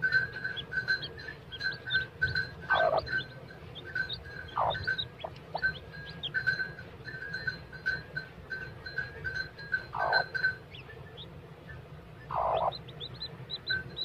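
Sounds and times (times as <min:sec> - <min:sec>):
chicks peeping: 0:00.0 - 0:07.5, 0:09.2 - 0:14.0.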